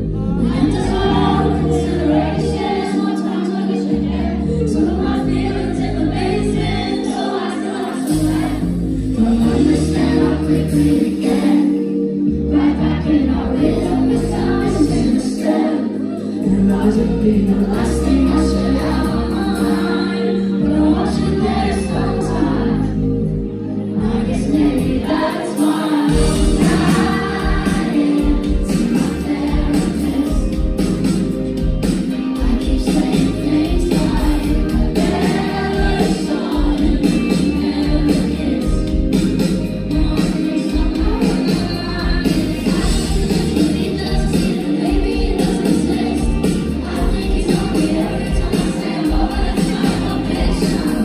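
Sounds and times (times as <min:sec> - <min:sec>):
crowd singing along: 0:00.0 - 0:51.0
live pop band with woman singing: 0:00.0 - 0:51.0.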